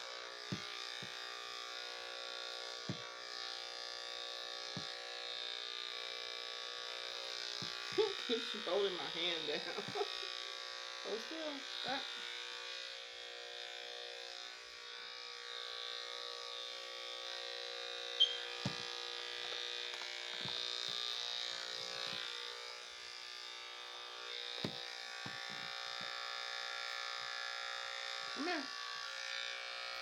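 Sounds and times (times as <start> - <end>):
electric clippers buzzing: 0.0 - 30.0.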